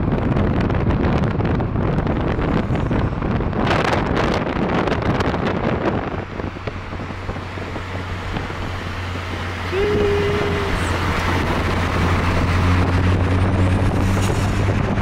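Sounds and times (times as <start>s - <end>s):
car and road noise: 0.0s - 15.0s
low engine hum: 0.0s - 15.0s
wind buffeting microphone: 0.0s - 15.0s.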